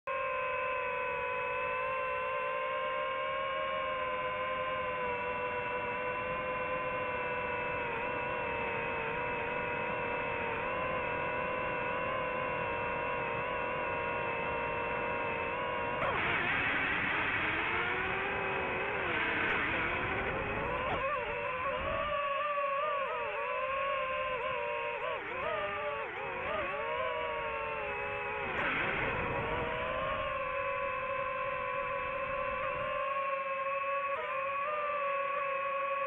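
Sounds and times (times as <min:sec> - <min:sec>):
drone propellers whining: 0:00.1 - 0:36.0.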